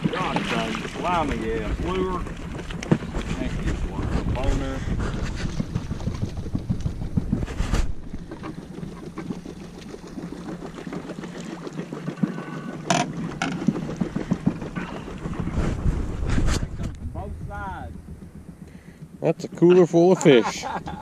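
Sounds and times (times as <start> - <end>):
wind rumbling on microphone: 0.0 - 11.7, 12.8 - 20.0.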